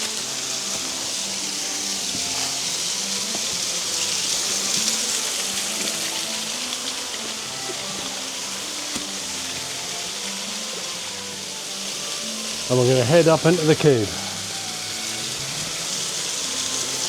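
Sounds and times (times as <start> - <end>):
flute and harp music: 0.0 - 17.0
waterfall rushing: 0.0 - 17.0.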